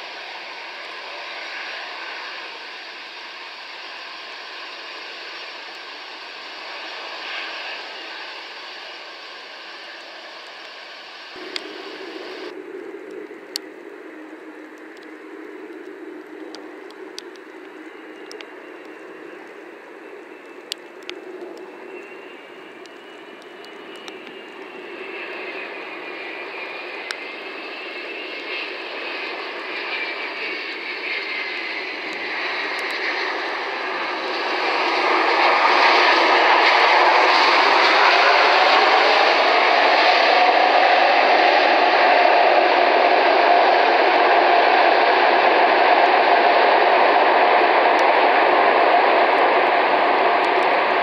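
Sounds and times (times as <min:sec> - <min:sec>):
jet engine noise with high whine: 0:00.0 - 0:51.0.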